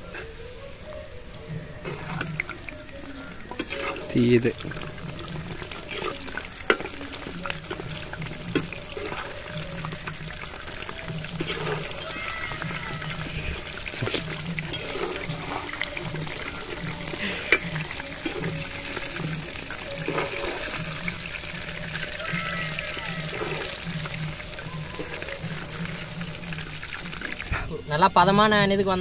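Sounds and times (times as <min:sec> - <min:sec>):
food deep-frying in hot oil: 0:00.0 - 0:29.0.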